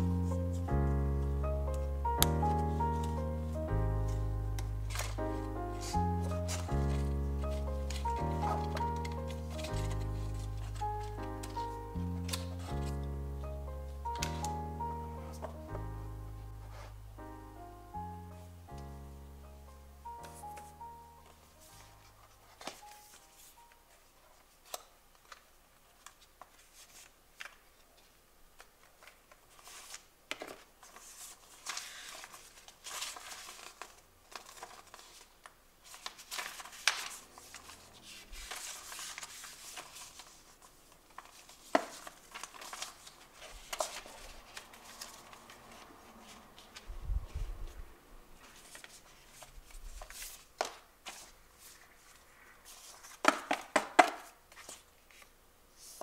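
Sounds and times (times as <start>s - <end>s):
paper and card rustling: 1.5s - 13.2s, 14.0s - 15.8s, 20.1s - 47.8s, 48.4s - 56.0s.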